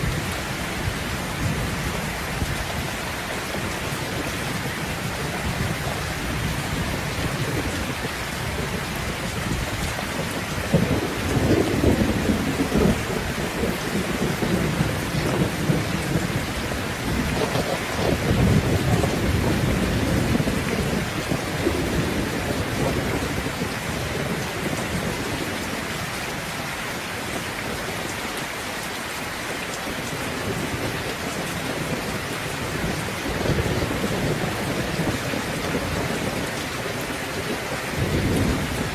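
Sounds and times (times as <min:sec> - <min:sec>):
thunder rumbling: 0:00.0 - 0:28.1, 0:29.9 - 0:38.9
heavy rain: 0:00.0 - 0:38.9.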